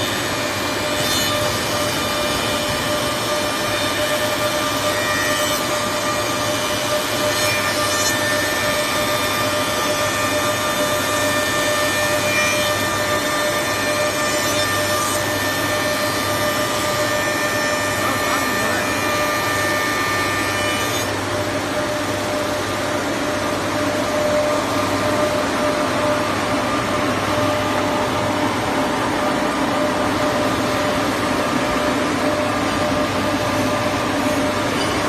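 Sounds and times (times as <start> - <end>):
wood planer with high whine: 0.0 - 35.0.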